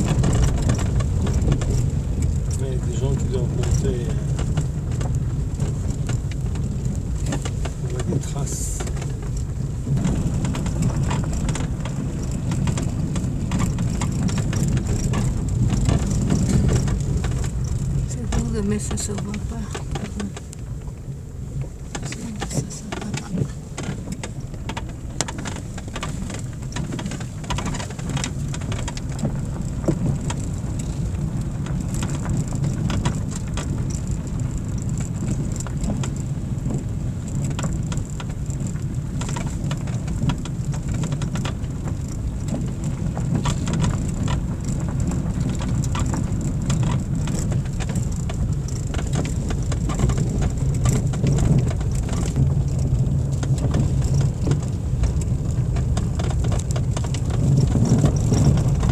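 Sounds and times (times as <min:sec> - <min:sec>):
car engine and tyres rumbling: 0:00.0 - 0:58.9
stones ticking against tyres: 0:00.0 - 0:58.9.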